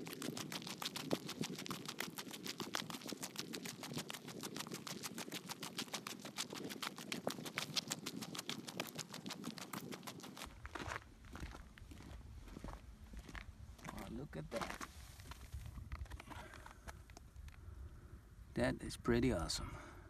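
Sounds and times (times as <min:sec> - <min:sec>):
footsteps crunching on gravel: 0:00.0 - 0:17.2.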